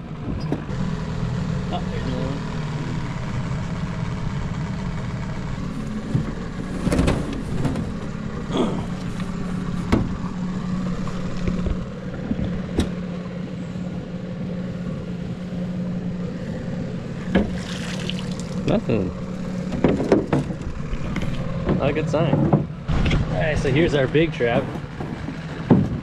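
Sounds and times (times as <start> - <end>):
boat motor idling: 0.0 - 26.0.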